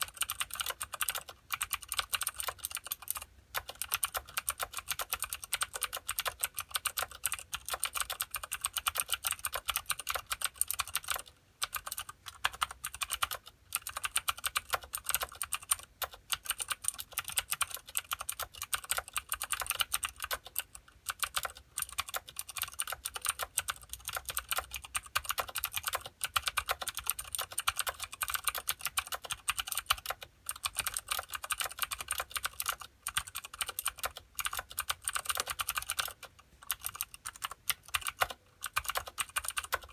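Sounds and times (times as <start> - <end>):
clicky keyboard typing: 0.0 - 39.9.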